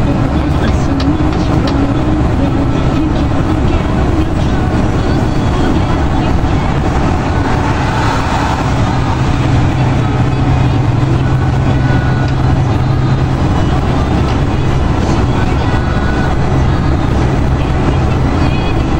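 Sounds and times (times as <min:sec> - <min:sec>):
engine hum: 0:00.0 - 0:18.9
road and tyre noise: 0:00.0 - 0:18.9.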